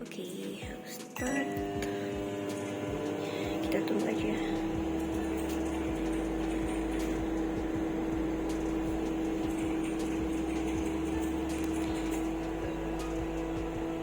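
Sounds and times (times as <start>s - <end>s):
microwave oven humming: 1.2s - 14.0s.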